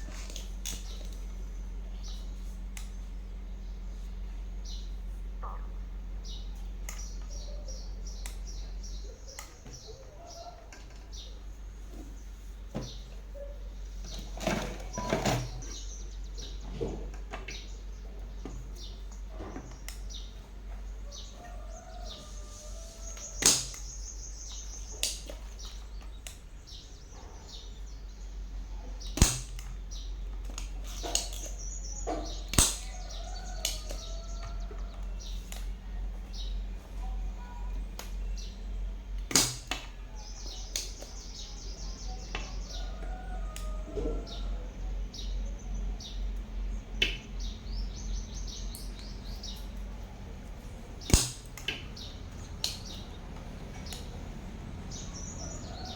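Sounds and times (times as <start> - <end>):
birds chirping: 0.0 - 55.9
steady low hum: 0.0 - 55.9.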